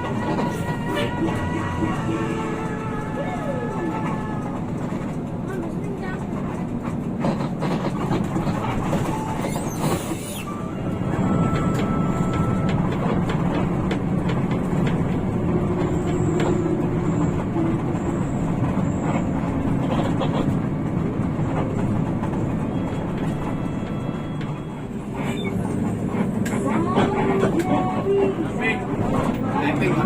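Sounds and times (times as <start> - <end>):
bus body rattles and clicks: 0.0 - 30.0
bus engine and road noise: 0.0 - 30.0.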